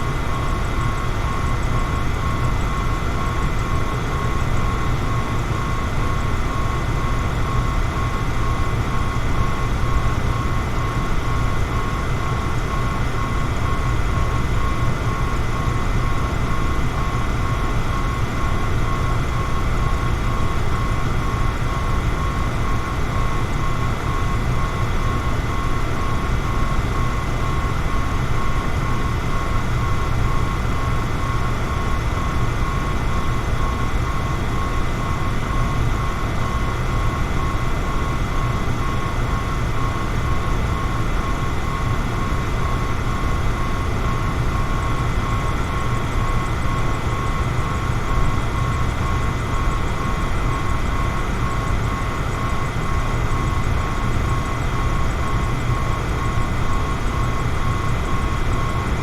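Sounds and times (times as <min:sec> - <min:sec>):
electric fan running: 0:00.0 - 0:59.0
faint steady whine: 0:00.0 - 0:59.0.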